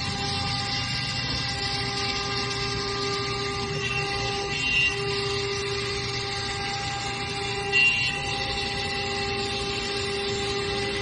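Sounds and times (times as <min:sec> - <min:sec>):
router spindle whine: 0:00.0 - 0:11.0.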